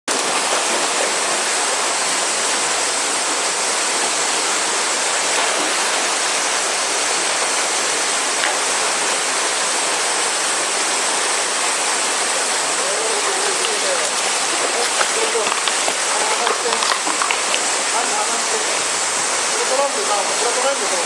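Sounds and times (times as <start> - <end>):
river water rushing: 0.1 - 21.0
cicadas droning: 1.1 - 20.7.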